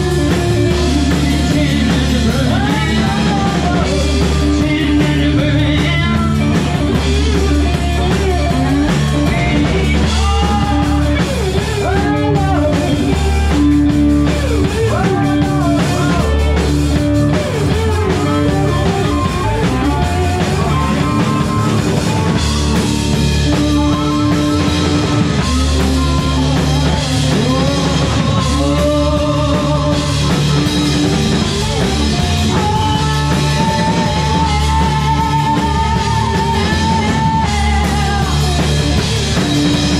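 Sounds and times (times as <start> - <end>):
bass guitar: 0.0 - 39.9
drum kit: 0.0 - 39.9
electric guitars: 0.0 - 39.9
person singing: 0.0 - 39.9.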